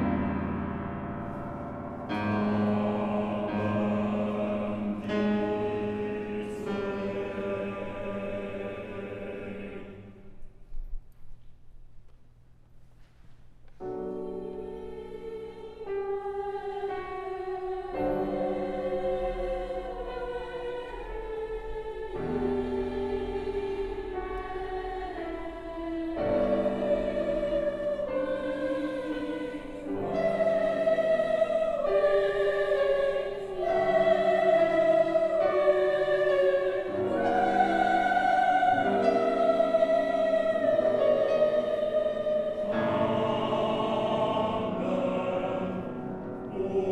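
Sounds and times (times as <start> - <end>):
choir singing sacred piece: 0.0 - 10.8, 13.8 - 46.9.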